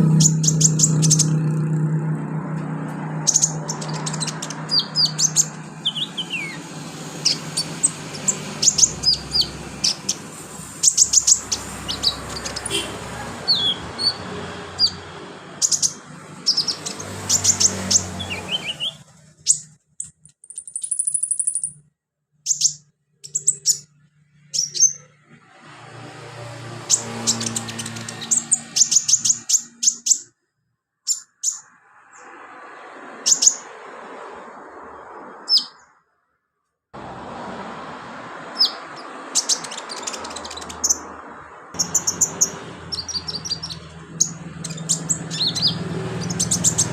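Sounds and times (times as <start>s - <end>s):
bird chirping and trilling: 0.0s - 2.1s, 3.0s - 25.4s, 26.3s - 30.4s, 31.0s - 32.4s, 33.1s - 33.8s, 35.2s - 36.0s, 38.4s - 46.9s.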